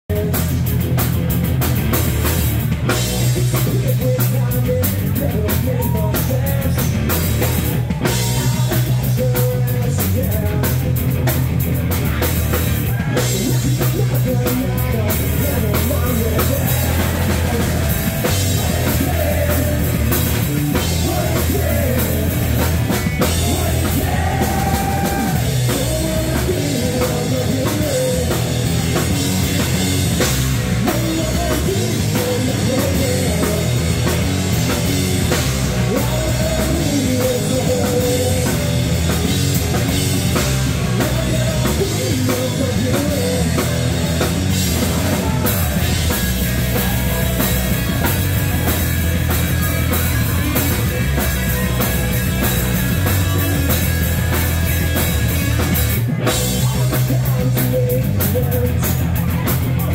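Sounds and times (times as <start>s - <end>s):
live rock band playing: 0.1s - 59.9s.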